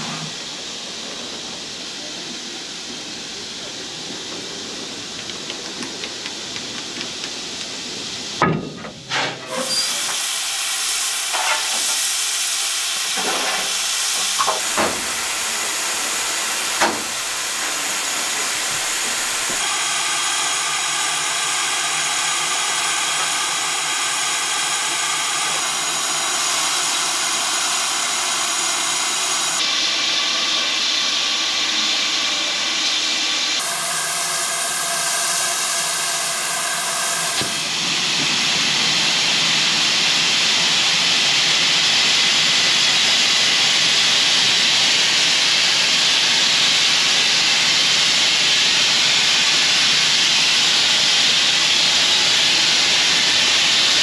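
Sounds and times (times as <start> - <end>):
rush of escaping steam: 0.0 - 8.4, 9.0 - 54.0
steam hissing: 0.0 - 8.4, 9.3 - 54.0.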